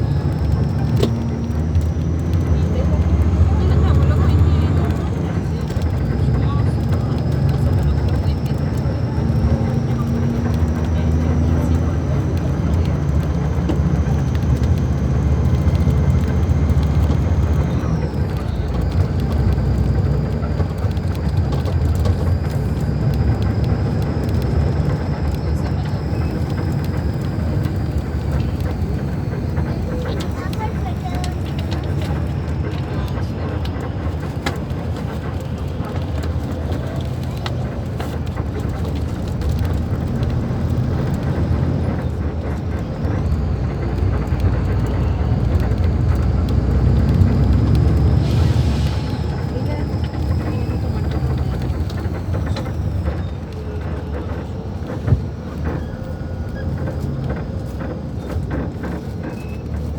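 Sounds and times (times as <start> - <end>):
diesel bus engine rumble: 0.0 - 59.9.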